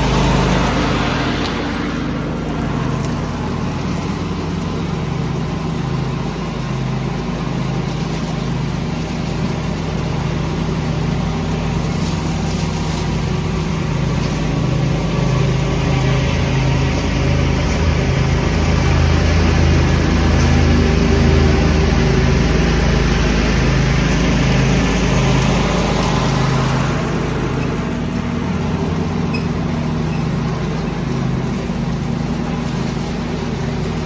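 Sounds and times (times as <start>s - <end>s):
leaves vacuumed rushing hiss: 0.0s - 34.0s
small engine hum: 0.0s - 34.0s.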